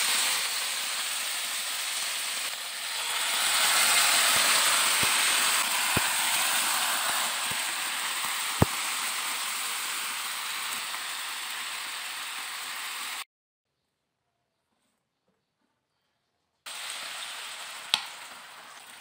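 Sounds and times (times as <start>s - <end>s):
food sizzling in hot oil: 0.0s - 13.2s, 16.7s - 19.0s.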